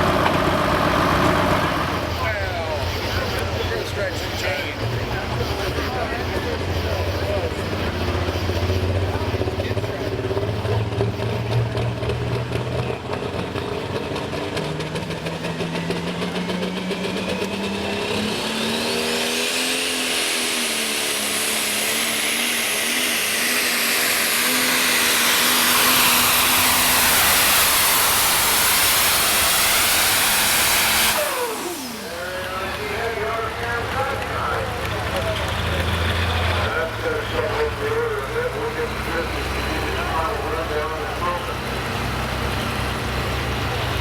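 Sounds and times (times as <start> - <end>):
high turbo whine: 0.0 - 44.0
tractor diesel engine under load: 0.0 - 44.0.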